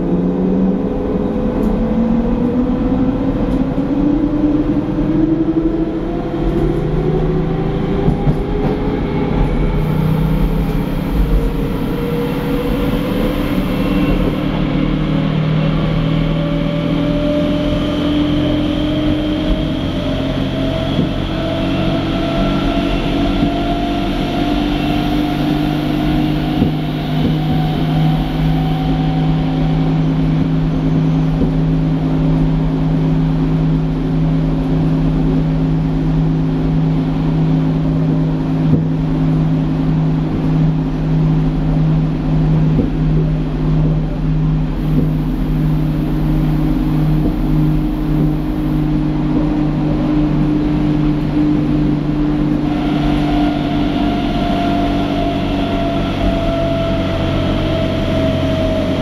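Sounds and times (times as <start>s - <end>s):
electric train motor whine: 0.0s - 33.6s, 39.1s - 59.0s
steady low drone: 0.0s - 59.0s
train rolling rumble: 0.0s - 59.0s.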